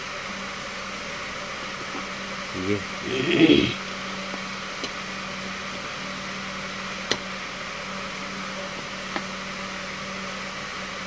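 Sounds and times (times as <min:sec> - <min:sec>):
mechanical hum with hiss: 0:00.0 - 0:11.0.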